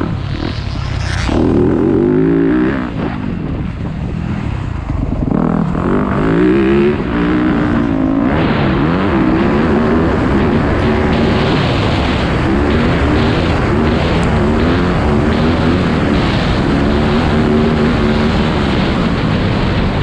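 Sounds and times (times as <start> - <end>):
dirt bike engine revving: 0.0 - 20.0
wind noise: 0.0 - 20.0.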